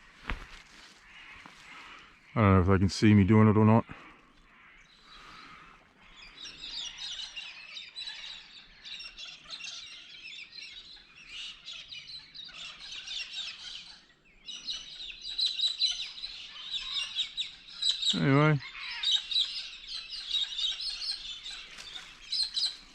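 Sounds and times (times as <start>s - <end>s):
chorus of birds chirping: 0.0s - 22.9s.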